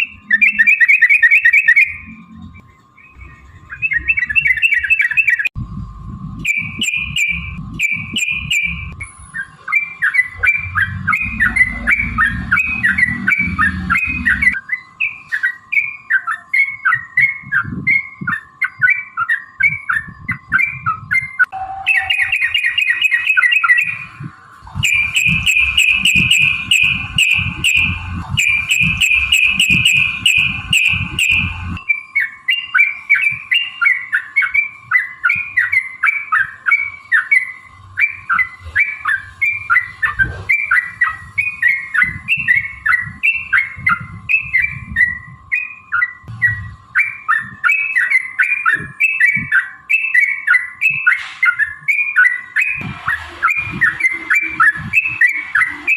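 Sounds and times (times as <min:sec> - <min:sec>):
bird singing bubbly chirps: 0:00.0 - 0:05.6, 0:06.4 - 0:52.8.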